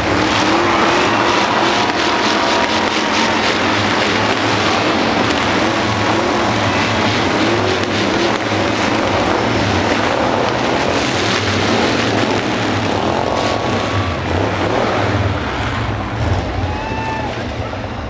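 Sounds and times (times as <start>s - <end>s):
many car engines revving: 0.0s - 18.0s.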